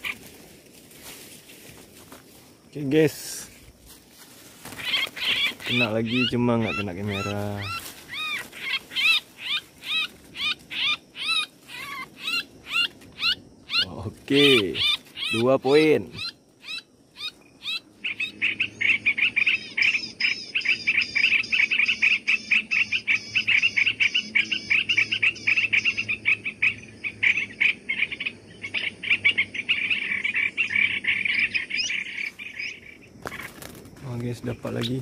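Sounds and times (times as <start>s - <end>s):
bird chattering calls: 4.6s - 33.8s.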